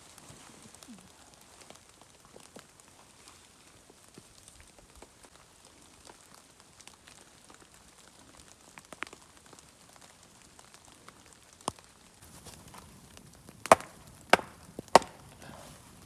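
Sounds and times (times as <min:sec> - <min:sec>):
faint crackles and ticks: 0:00.0 - 0:16.0.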